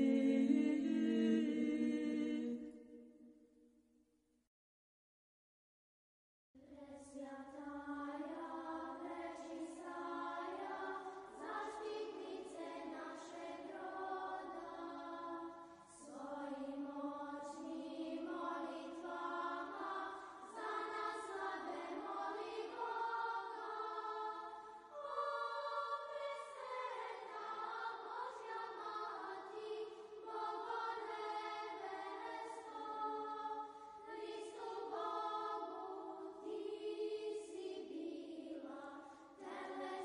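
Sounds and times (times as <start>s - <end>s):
choir singing a hymn: 0.0s - 3.2s, 6.8s - 40.0s.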